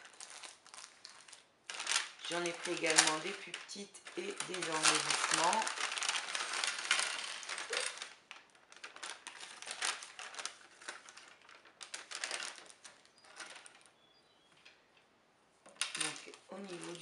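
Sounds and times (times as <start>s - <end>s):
paper and plastic rustling: 0.0s - 15.0s, 15.6s - 17.0s.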